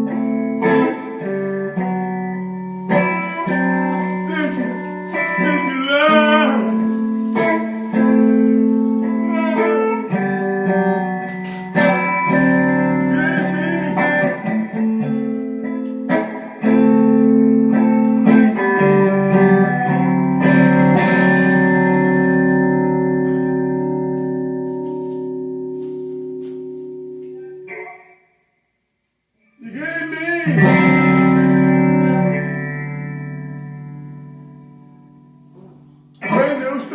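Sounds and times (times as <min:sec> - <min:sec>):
guitar chords: 0:00.0 - 0:28.2, 0:29.6 - 0:36.9.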